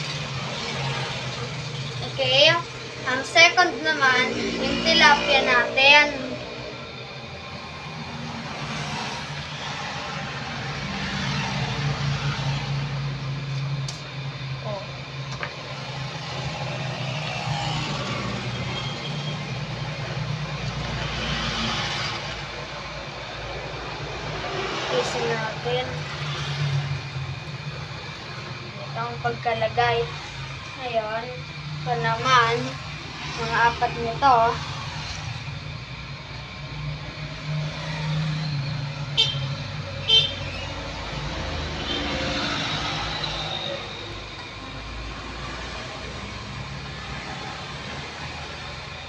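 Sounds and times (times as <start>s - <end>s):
road traffic going by: 0.0s - 49.0s
vehicle passing: 0.0s - 49.0s.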